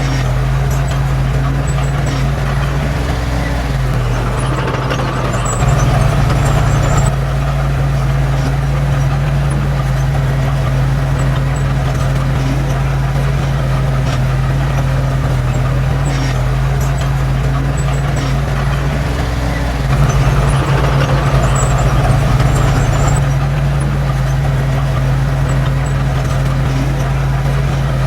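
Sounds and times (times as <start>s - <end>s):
heavy machinery diesel engine droning: 0.0s - 28.0s.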